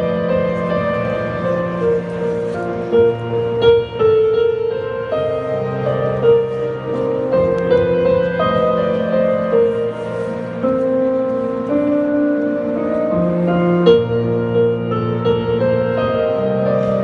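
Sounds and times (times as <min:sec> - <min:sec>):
slow sad instrumental music: 0:00.0 - 0:17.0.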